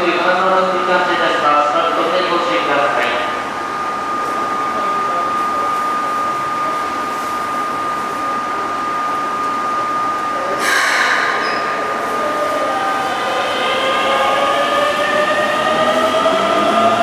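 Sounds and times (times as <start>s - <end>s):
electric train whine: 0.0s - 17.0s.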